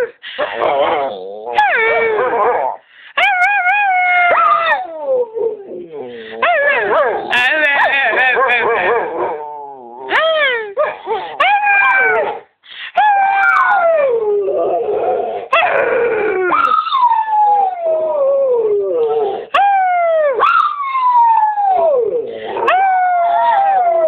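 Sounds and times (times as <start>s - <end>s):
dog howling: 0.0s - 7.3s, 8.8s - 12.4s, 13.0s - 24.0s.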